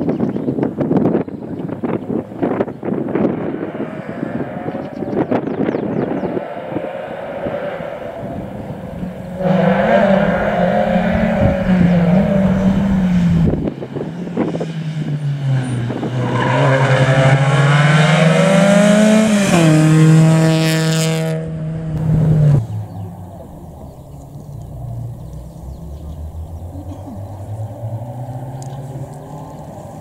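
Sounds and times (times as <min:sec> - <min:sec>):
rally car engine revving: 0:03.0 - 0:30.0.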